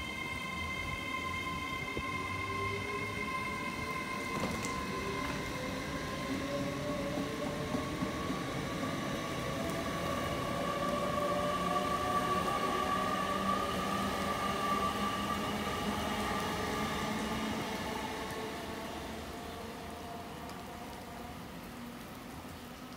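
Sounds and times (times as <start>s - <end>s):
train passing with steady whine: 0.0s - 22.9s.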